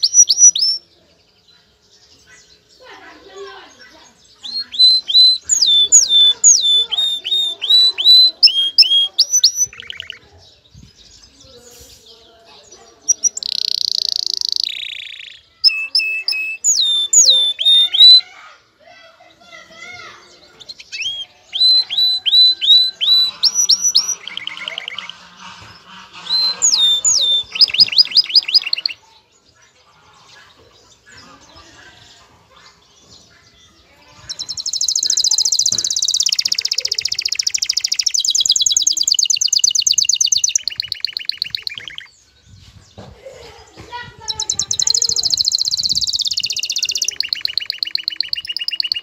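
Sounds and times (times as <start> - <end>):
canary singing: 0.0 - 42.4, 43.7 - 49.0.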